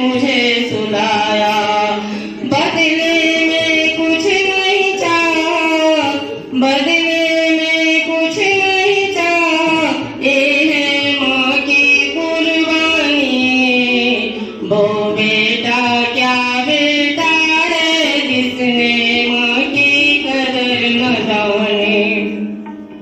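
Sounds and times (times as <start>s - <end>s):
person singing long sliding notes: 0.0s - 23.0s.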